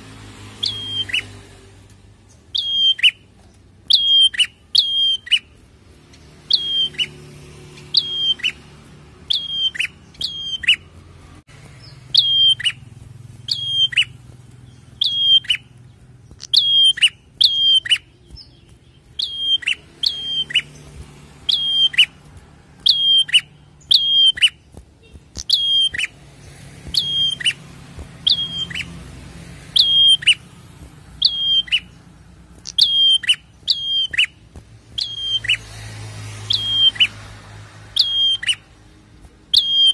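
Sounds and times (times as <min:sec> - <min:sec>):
songbird chirping: 0:00.1 - 0:39.9.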